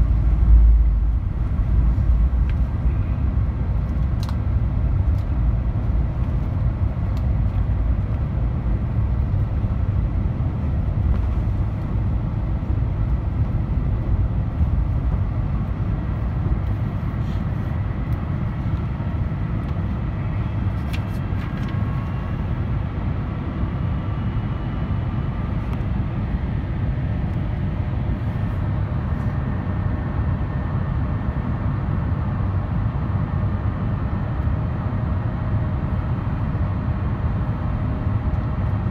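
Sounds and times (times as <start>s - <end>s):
airflow rumble in cabin: 0.0s - 38.9s.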